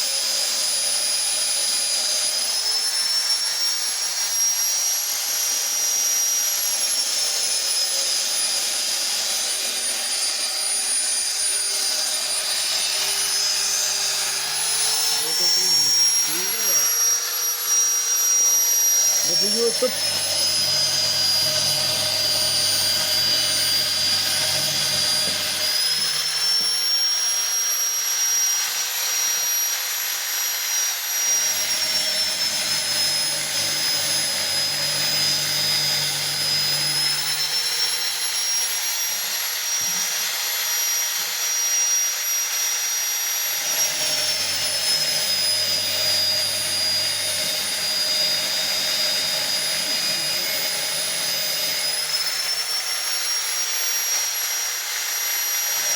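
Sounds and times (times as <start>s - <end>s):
electric grinder whining: 0.0s - 55.9s.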